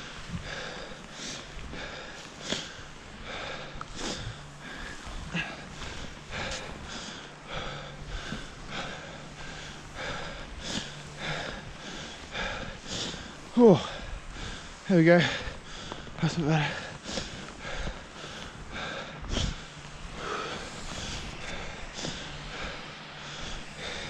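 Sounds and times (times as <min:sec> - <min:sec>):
heavy breathing: 0:00.0 - 0:24.0
skis crunching through snow: 0:00.0 - 0:24.0.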